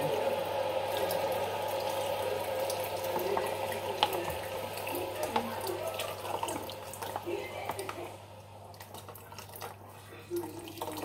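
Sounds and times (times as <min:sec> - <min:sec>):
hot water pouring into a pot: 0:00.0 - 0:11.0.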